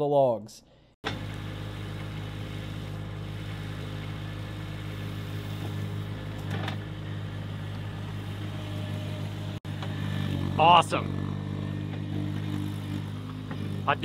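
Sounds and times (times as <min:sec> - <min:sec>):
diesel engine under load: 0:01.0 - 0:14.0.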